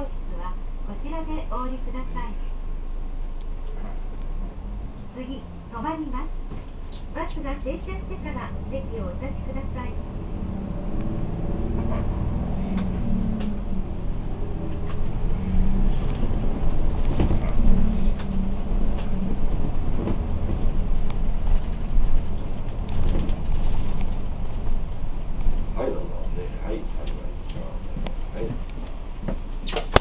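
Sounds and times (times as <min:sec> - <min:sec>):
bus engine running: 0:00.0 - 0:30.0
road noise: 0:00.0 - 0:30.0.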